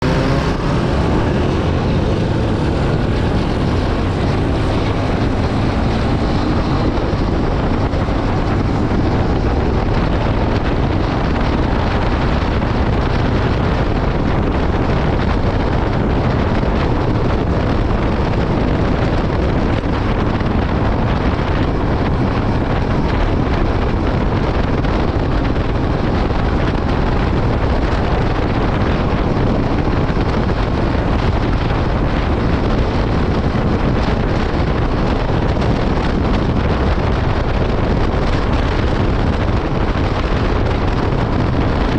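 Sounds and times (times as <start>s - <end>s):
motorcycle engine running steadily: 0.0s - 41.9s.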